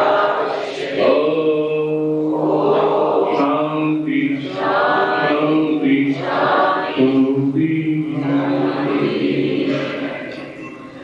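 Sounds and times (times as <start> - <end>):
group of voices chanting: 0.0 - 7.4, 8.0 - 10.5.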